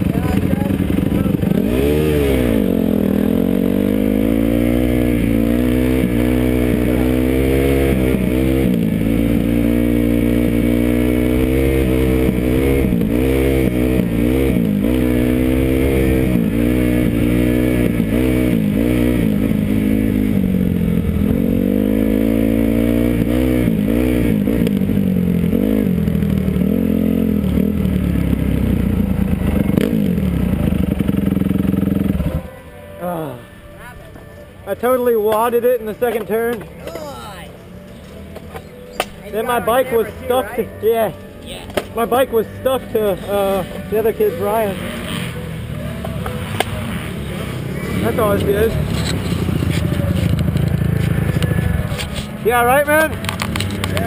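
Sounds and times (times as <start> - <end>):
motocross bike engine revving: 0.0 - 32.5, 42.0 - 54.0.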